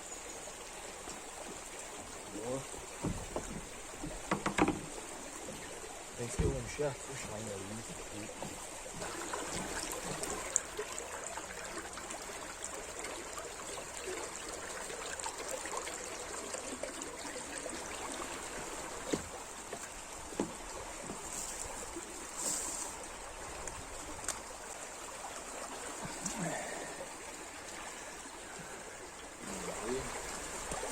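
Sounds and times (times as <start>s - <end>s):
stream running: 0.0s - 30.9s.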